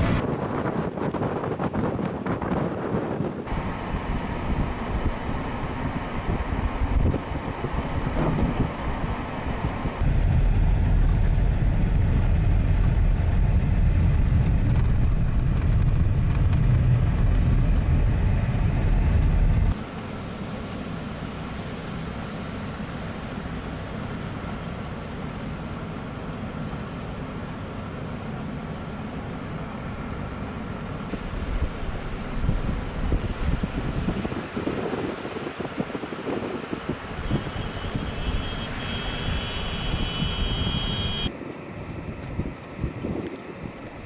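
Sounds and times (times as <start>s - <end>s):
vehicle road and wind noise: 0.0s - 44.0s.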